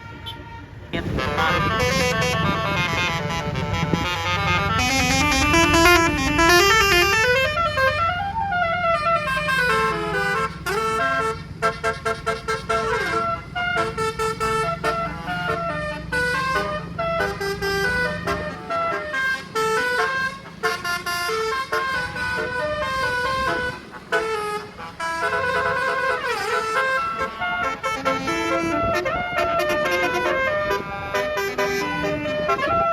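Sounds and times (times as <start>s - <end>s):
bus engine rumble: 0.0s - 32.9s
multi-tone air horn melody: 0.0s - 32.9s.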